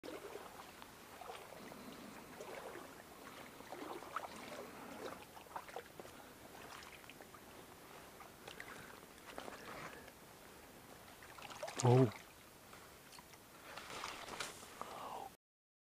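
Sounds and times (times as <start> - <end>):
little splashes and bubbling: 0.0 - 10.2, 11.0 - 14.5
stream trickling and gurgling: 0.0 - 14.9.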